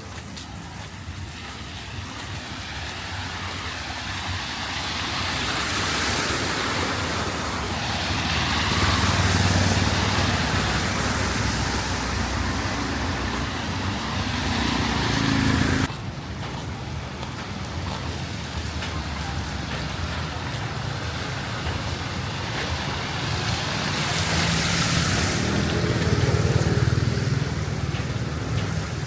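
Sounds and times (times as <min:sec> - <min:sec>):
tyres hissing through water: 0:00.0 - 0:15.9, 0:16.9 - 0:29.0
engine hum: 0:05.4 - 0:29.0.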